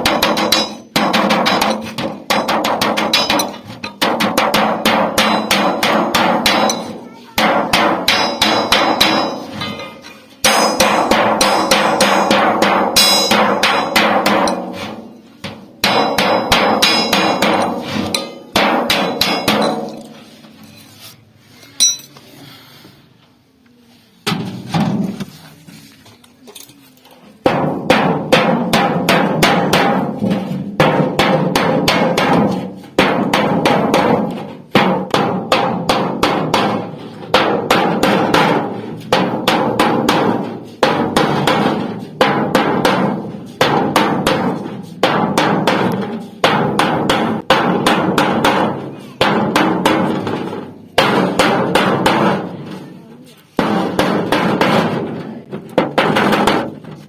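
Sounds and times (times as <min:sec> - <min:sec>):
hammer beating sheet metal: 0:00.0 - 0:20.6, 0:27.4 - 0:57.0.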